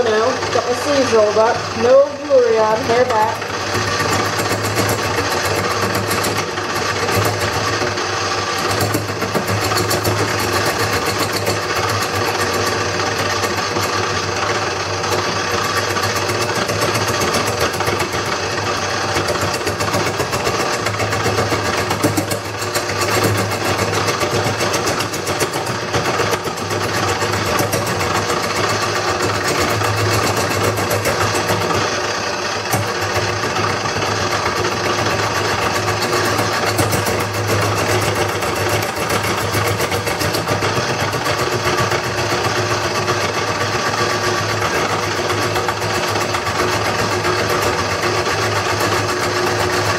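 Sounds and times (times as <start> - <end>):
turning tool scraping wood: 0.0 - 49.9
wood lathe humming: 0.0 - 49.9.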